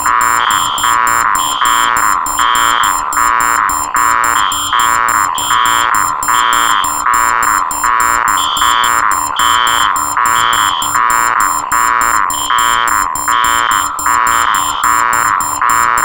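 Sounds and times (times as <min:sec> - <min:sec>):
fast stutter of short beeps: 0:00.0 - 0:16.0
harsh pulsing buzzing alarm: 0:00.0 - 0:16.0
higher alarm beep: 0:00.0 - 0:16.0.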